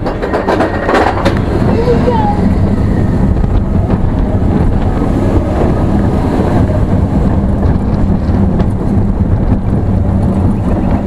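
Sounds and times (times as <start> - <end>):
roller coaster rumbling on track: 0.0 - 11.0
wind buffeting microphone: 0.0 - 11.0.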